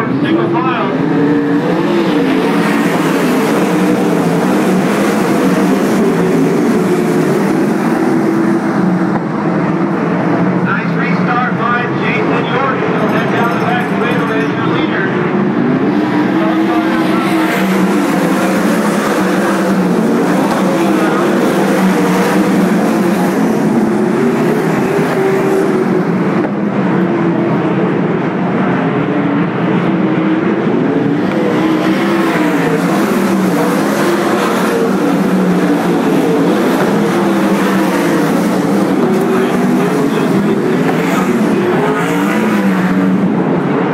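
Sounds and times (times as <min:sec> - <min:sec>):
race car engines roaring: 0:00.0 - 0:43.9.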